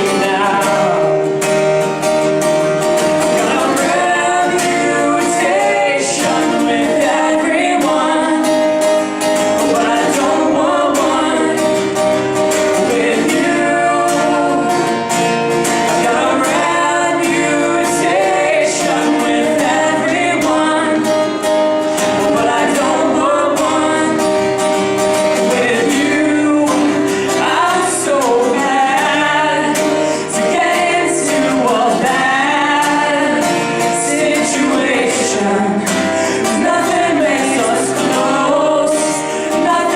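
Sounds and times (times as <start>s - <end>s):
person singing: 0.0s - 1.4s, 3.2s - 39.9s
guitar accompaniment: 0.0s - 39.9s.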